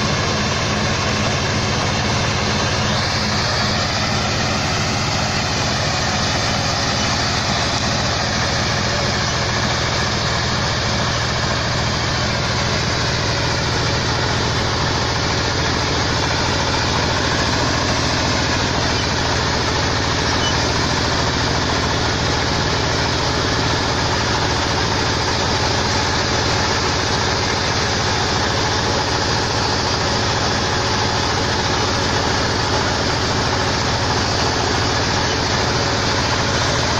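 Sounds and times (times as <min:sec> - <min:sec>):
harvester engine droning: 0:00.0 - 0:36.9.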